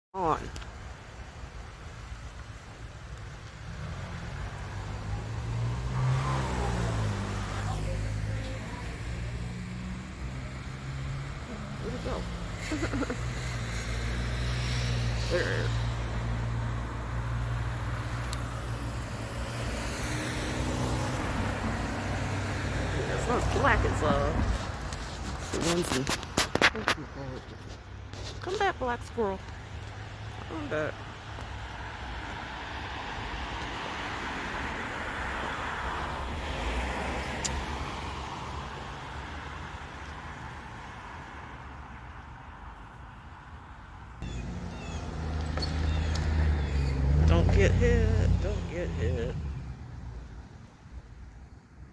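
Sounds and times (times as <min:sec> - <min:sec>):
cars driving past: 0:03.2 - 0:51.8
vehicle passing: 0:03.6 - 0:50.9.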